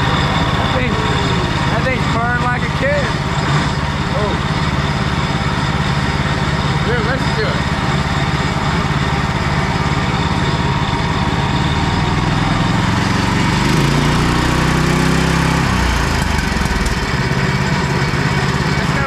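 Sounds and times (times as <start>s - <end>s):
small gas engine revving: 0.0s - 19.0s.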